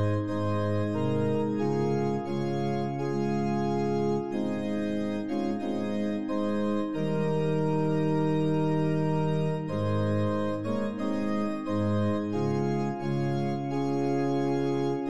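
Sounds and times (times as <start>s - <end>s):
slow organ chords: 0.0s - 15.0s.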